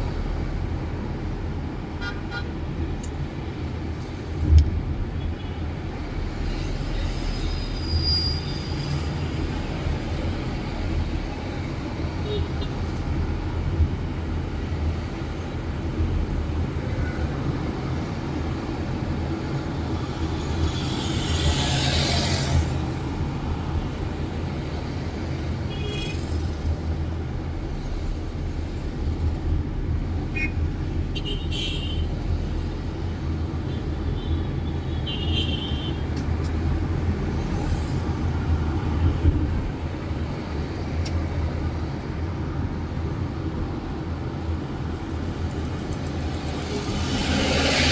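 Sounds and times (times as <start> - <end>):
traffic rumble: 0.0 - 47.9.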